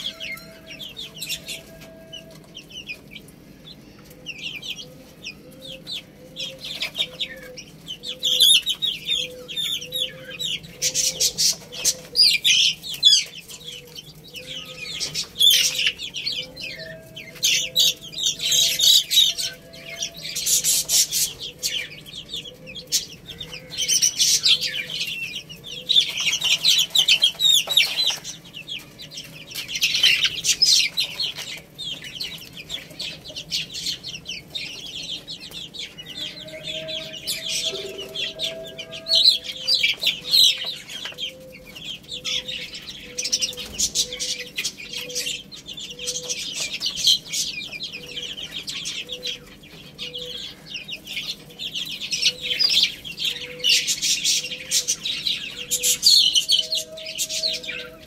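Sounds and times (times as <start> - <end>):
baby chicks chirping: 0.0 - 58.0.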